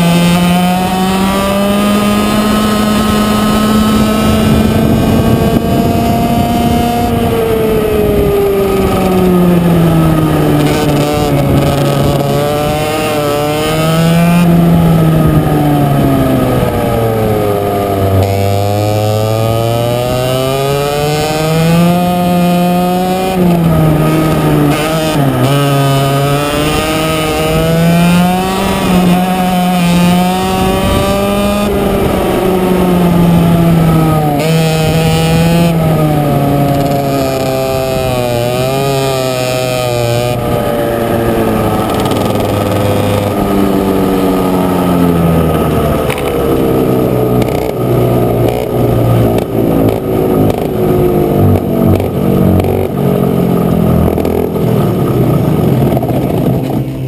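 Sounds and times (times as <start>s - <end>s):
racing kart engine revving: 0.0s - 57.0s.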